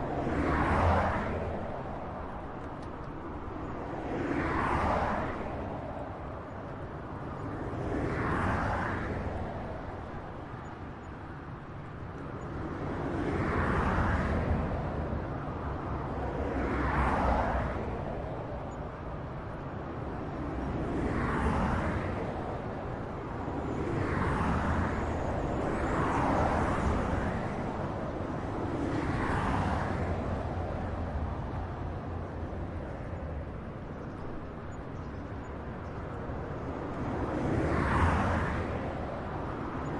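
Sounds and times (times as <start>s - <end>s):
highway traffic rumble: 0.0s - 39.9s
vehicles passing by: 0.0s - 39.9s.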